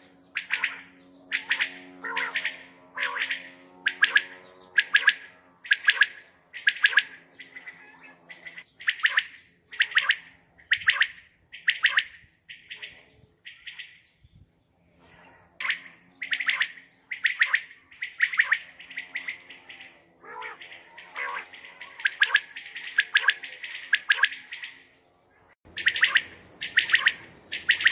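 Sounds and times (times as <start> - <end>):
quail calling: 0.0 - 14.0, 15.0 - 24.9, 25.7 - 27.9.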